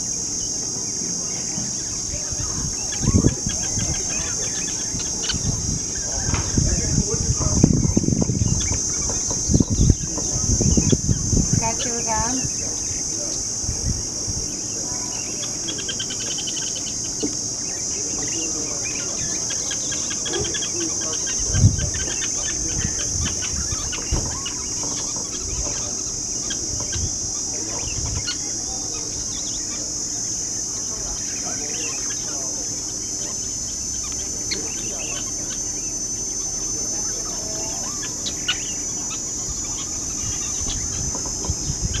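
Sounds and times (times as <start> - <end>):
birds chirping: 0.0 - 42.0
high-pitched insect drone: 0.0 - 42.0.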